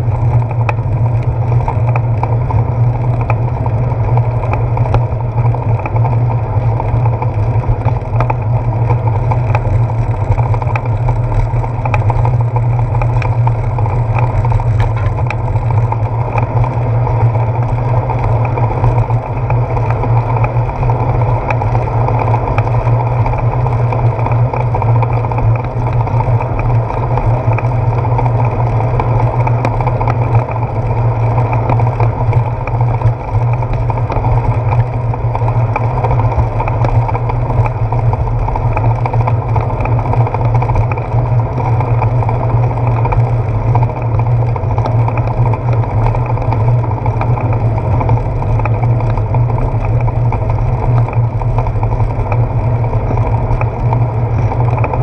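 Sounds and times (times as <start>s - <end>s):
bicycle road vibration: 0.0s - 55.0s
wind rumble: 0.0s - 55.0s.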